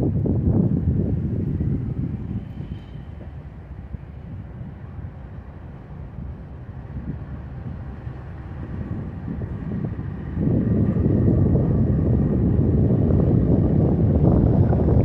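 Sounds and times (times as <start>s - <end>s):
diesel locomotives rumbling: 0.0s - 15.0s
wind buffeting microphone: 0.0s - 15.0s.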